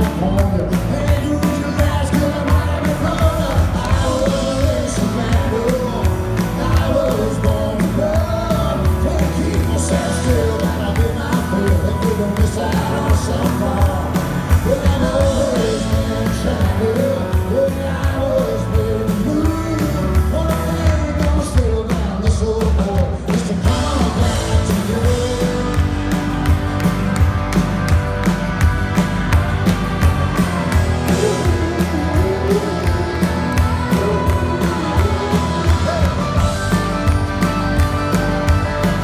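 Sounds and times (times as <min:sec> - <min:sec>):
man singing lead vocal: 0:00.0 - 0:26.2, 0:30.7 - 0:37.0
drum kit steady beat: 0:00.0 - 0:39.0
electric guitar: 0:00.0 - 0:39.0
strummed acoustic guitar: 0:00.0 - 0:39.0.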